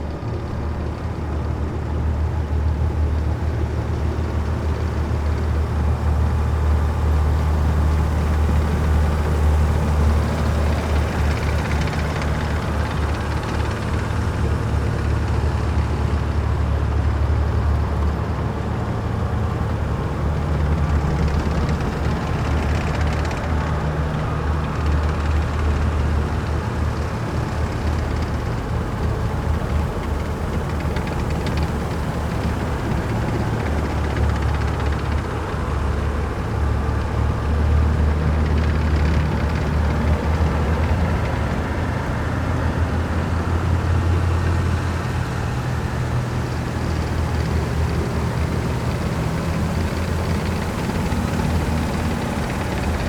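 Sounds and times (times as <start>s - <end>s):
heavy vehicles diesel engines rumbling: 0.0s - 53.0s.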